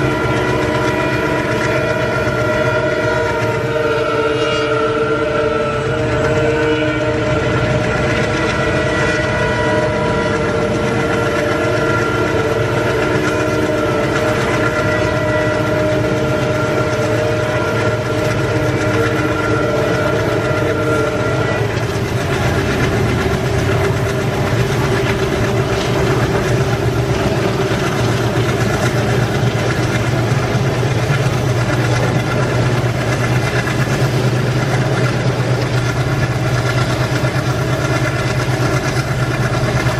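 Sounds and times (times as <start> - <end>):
train horn: 0.0 - 39.9
train rumbling: 0.0 - 39.9.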